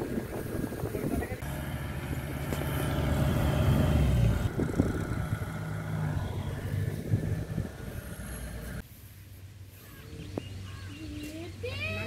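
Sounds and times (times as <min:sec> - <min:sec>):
farm machinery engine humming: 0:00.0 - 0:10.5.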